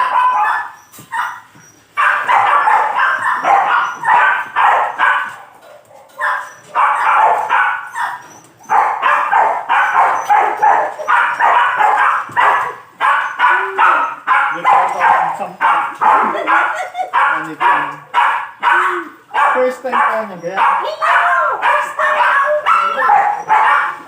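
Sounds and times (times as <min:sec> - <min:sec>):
dog making repeated loud sounds: 0:00.0 - 0:24.0.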